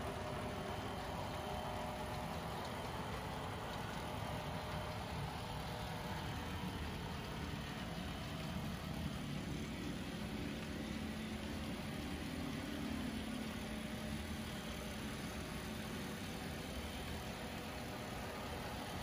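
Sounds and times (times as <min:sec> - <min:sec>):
model locomotive rumble and hum: 0:00.0 - 0:19.0.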